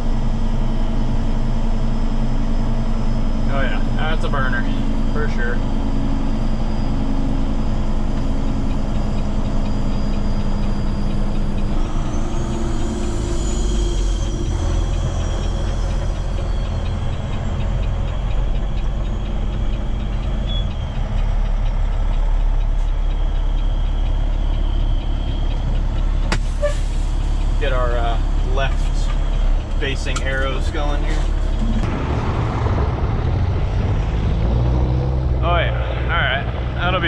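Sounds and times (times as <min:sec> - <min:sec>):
road noise: 0:00.0 - 0:37.0
truck diesel engine running: 0:00.0 - 0:37.0.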